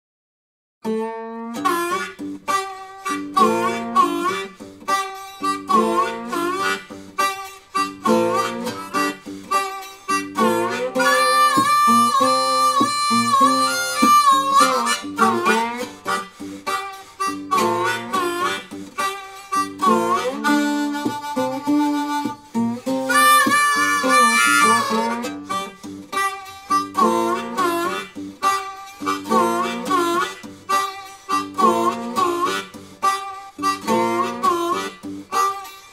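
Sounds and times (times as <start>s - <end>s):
acoustic guitar: 0.8s - 35.9s
blues harmonica: 0.8s - 35.9s.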